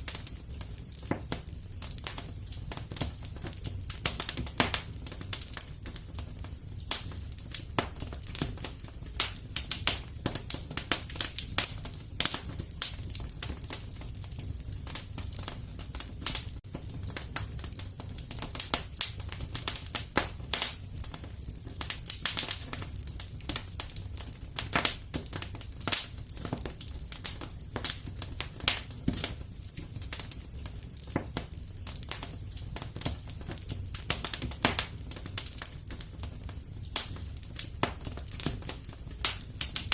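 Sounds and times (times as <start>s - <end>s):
fireplace fire crackling: 0.0s - 39.9s
low fire rumble: 0.0s - 39.9s.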